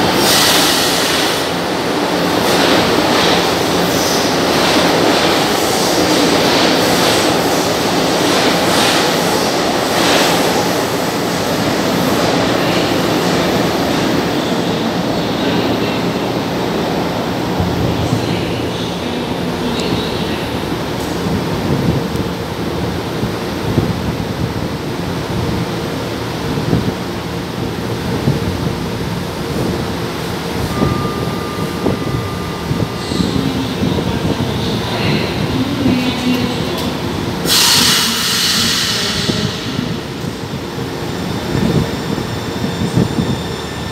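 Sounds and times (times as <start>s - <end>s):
metro train running in tunnel: 0.0s - 43.9s.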